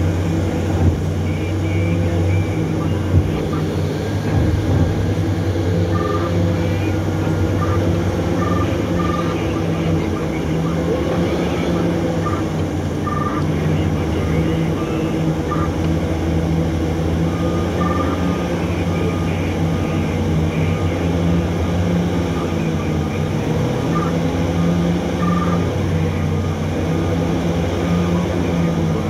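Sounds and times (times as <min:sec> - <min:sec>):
heavy diesel engines humming: 0:00.0 - 0:29.0.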